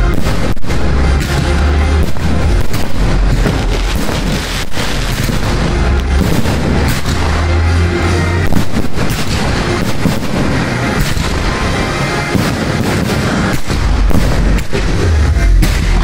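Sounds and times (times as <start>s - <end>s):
fireworks bursting: 0.0s - 16.0s
music with steady bass: 0.0s - 16.0s.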